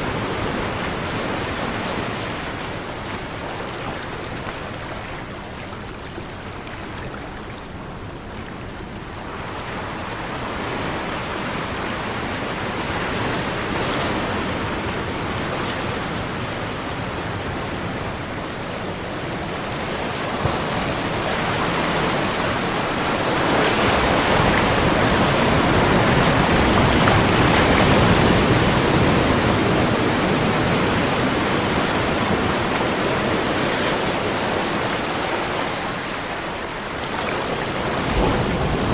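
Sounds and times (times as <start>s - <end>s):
ocean waves washing in: 0.0s - 38.9s.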